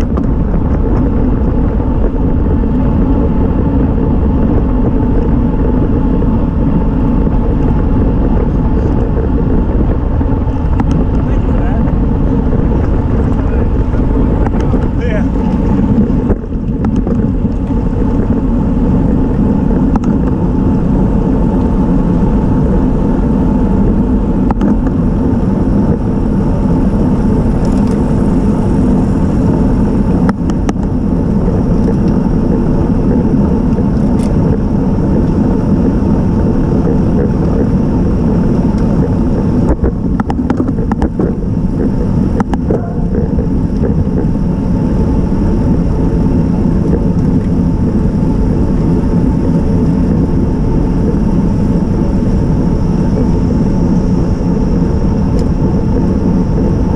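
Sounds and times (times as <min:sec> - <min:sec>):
wind and tyre rumble: 0:00.0 - 0:56.9.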